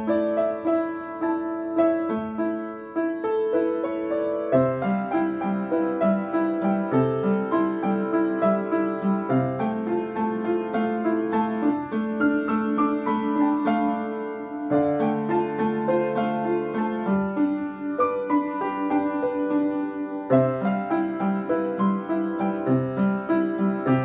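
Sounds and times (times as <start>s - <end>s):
upright piano playing: 0.0s - 24.0s.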